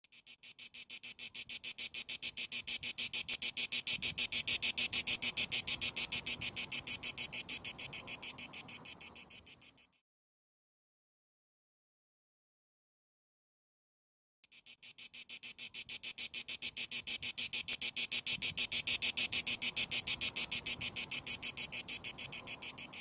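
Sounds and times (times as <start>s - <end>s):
cicada pulsed buzz: 0.0s - 10.0s, 14.4s - 23.0s.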